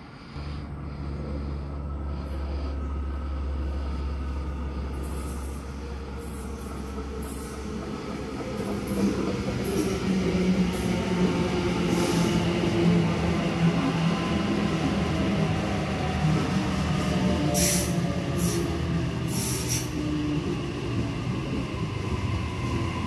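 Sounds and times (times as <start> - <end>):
electric train hum: 0.0 - 23.0.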